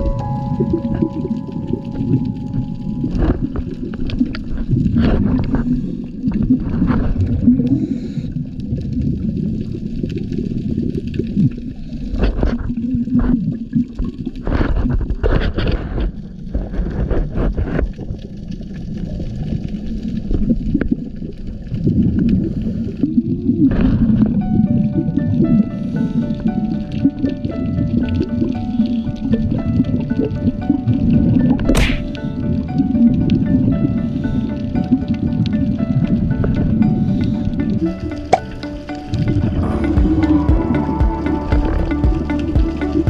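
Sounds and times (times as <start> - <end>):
low underwater rumble: 0.0 - 15.1, 16.0 - 43.0
bubbling: 0.0 - 15.2, 16.2 - 43.0.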